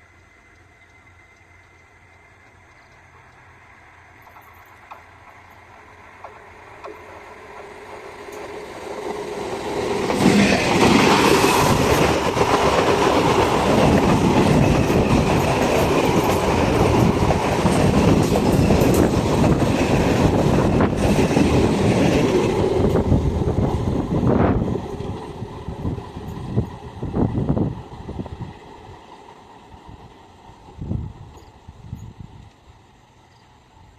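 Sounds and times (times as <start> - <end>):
train wheels rumbling and clattering: 0.3 - 32.6.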